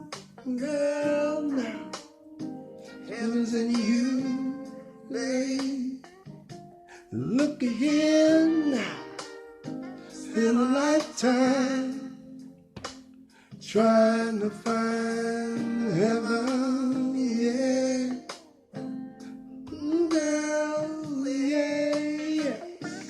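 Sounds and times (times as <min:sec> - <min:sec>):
person singing with vibrato: 0:00.0 - 0:02.1, 0:02.8 - 0:06.2, 0:06.9 - 0:12.3, 0:13.7 - 0:18.7, 0:19.7 - 0:23.0
guitar: 0:00.0 - 0:23.0.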